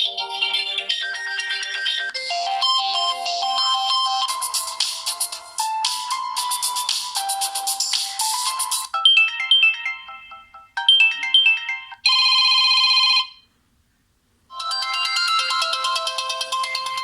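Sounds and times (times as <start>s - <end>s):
phone ringtone tune: 0.0s - 13.4s, 14.5s - 17.0s.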